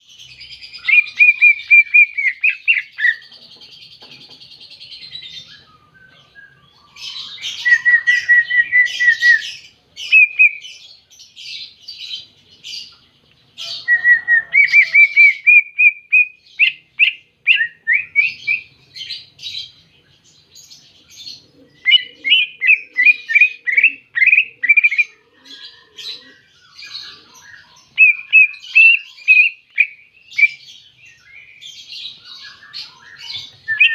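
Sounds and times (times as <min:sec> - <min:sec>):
bird singing chirps and trills: 0:00.0 - 0:33.9.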